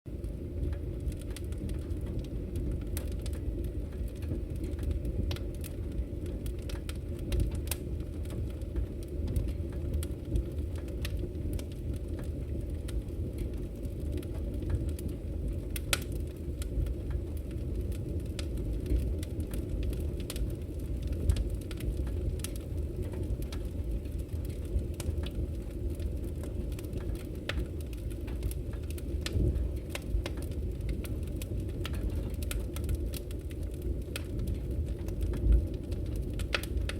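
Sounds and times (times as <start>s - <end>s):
low rumble of fire: 0.1s - 36.9s
wood crackling and popping: 0.1s - 36.9s.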